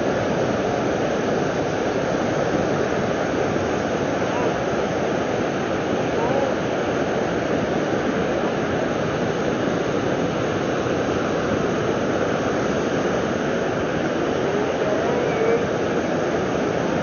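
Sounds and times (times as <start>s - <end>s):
surf breaking on sandy beach: 0.0s - 17.0s.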